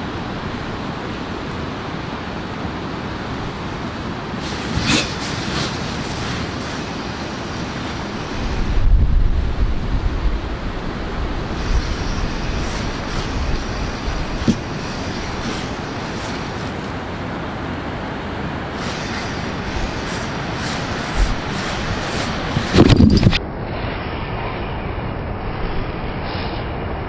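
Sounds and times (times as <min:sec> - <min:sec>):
wind blowing over microphone: 0:00.0 - 0:27.0.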